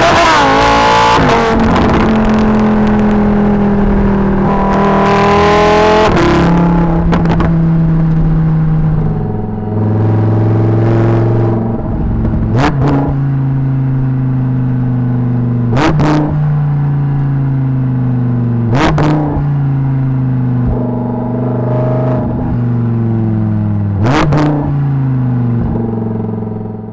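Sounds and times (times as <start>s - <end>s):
sports car engine running: 0.0s - 26.9s.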